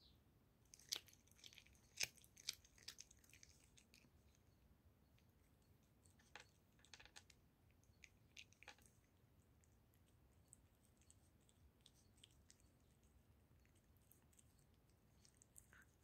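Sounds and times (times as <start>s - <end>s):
cat chewing and crunching: 0.7s - 16.0s.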